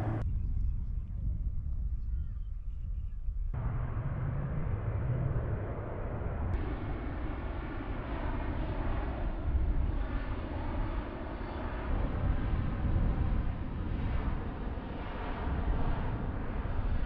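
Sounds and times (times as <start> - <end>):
jet aircraft rumble overhead: 0.0 - 17.0.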